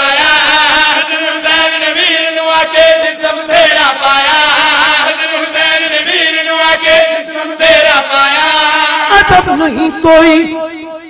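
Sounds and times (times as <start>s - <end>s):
men chanting into a microphone: 0.0s - 11.0s.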